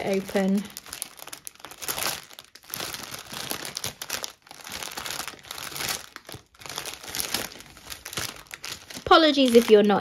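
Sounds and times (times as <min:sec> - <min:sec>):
plastic bag crinkling and rustling: 0:00.0 - 0:10.0.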